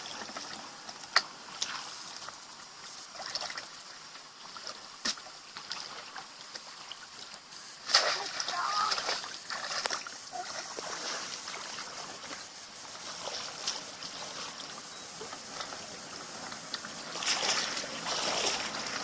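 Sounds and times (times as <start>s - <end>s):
rushing water: 0.0s - 19.0s
water sloshing and trickling: 0.0s - 19.0s.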